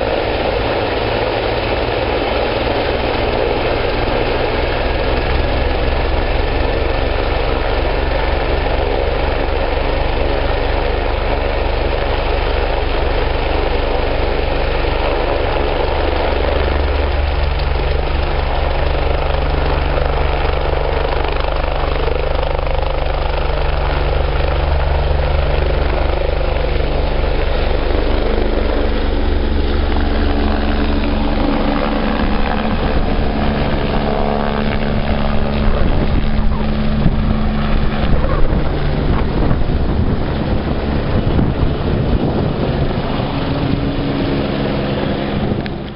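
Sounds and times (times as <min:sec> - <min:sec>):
helicopter turbines and rotor: 0:00.0 - 0:45.9.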